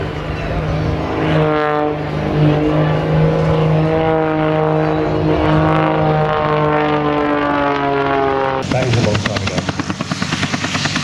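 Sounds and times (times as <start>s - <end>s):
propeller plane engine buzzing: 0.0s - 11.0s.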